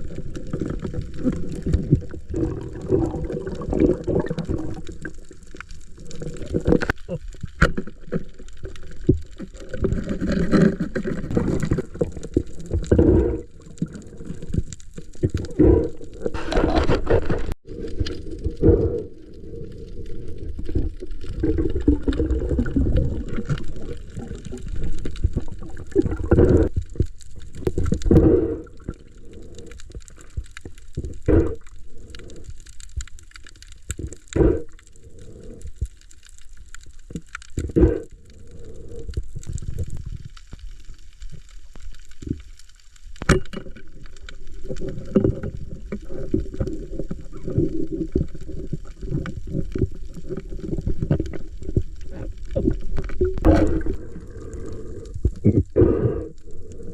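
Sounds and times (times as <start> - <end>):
water sloshing and gurgling: 0.0 - 56.9.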